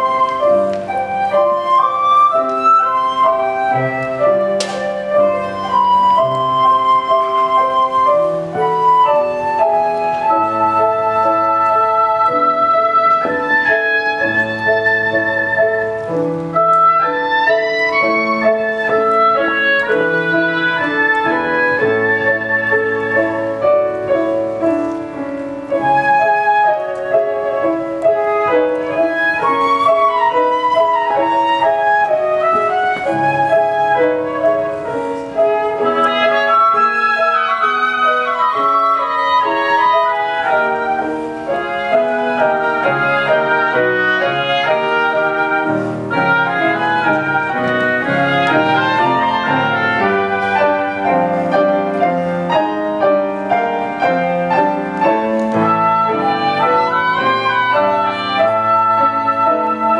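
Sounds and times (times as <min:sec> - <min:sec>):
flute melody: 0:00.0 - 0:59.9
low accompanying notes: 0:00.0 - 0:59.9
second woodwind: 0:00.0 - 0:59.9.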